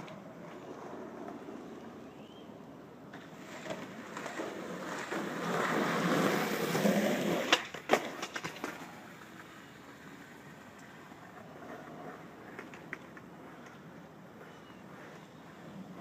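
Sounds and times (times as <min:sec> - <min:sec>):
skateboard clacking on ground: 0:00.0 - 0:01.9, 0:02.6 - 0:16.0
skateboard clattering: 0:00.0 - 0:16.0
skateboard wheels rolling on pavement: 0:00.0 - 0:16.0.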